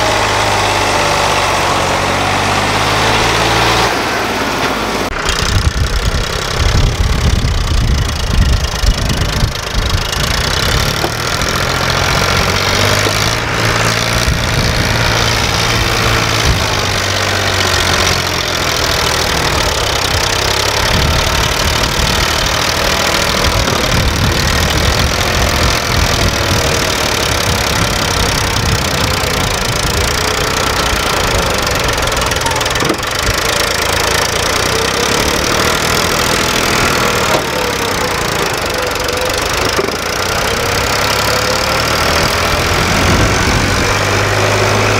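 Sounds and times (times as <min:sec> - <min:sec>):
diesel tractor engines running: 0:00.0 - 0:44.9.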